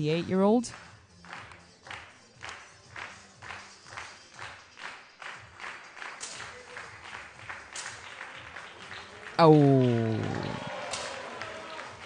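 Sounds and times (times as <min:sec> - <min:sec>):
spectators clapping in rhythm: 0:00.3 - 0:12.0.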